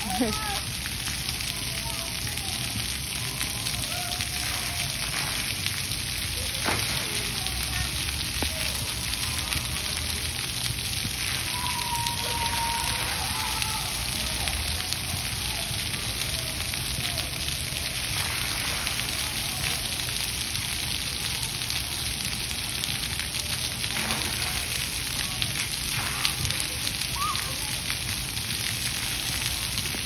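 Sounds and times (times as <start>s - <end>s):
fountain water spraying: 0.0s - 30.0s
water pattering on wet ground: 0.0s - 30.0s.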